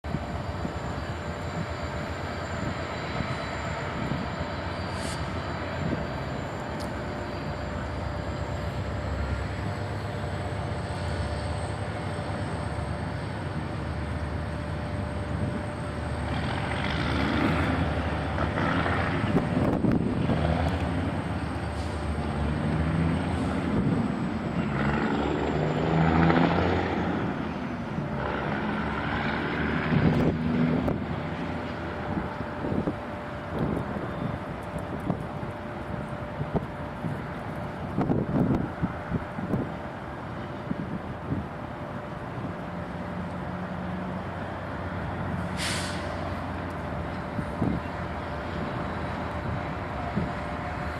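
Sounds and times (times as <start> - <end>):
diesel locomotive engine drone: 0.0 - 50.9.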